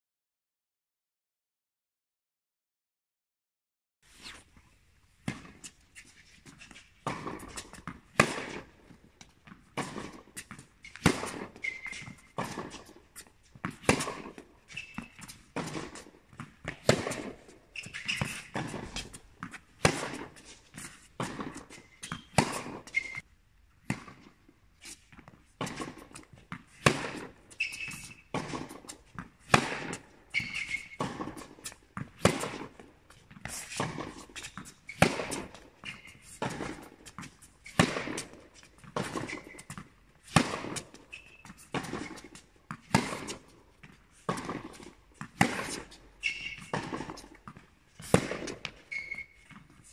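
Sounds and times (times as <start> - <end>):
shoes squeaking on court: 4.1 - 49.9
tennis ball bouncing: 5.2 - 5.8, 6.6 - 23.2, 23.8 - 24.4, 25.0 - 49.9
tennis racket striking ball: 7.0 - 23.2, 25.1 - 49.9.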